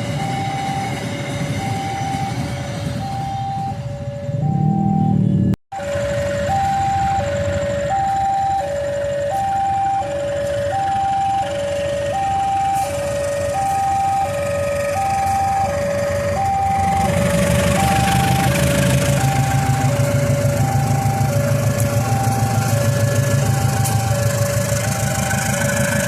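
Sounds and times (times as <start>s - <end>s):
two-tone crossing alarm: 0.0s - 26.0s.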